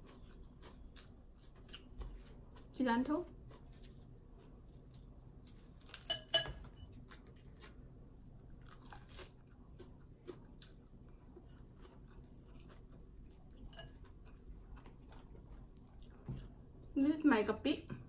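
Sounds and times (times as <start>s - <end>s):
person chewing and crunching food: 0.0s - 17.0s.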